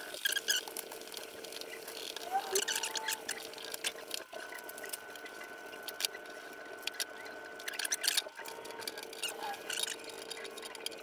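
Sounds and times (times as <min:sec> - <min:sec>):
faint steady hum: 0:00.0 - 0:11.0
vinyl film crackling and squeaking: 0:00.0 - 0:11.0.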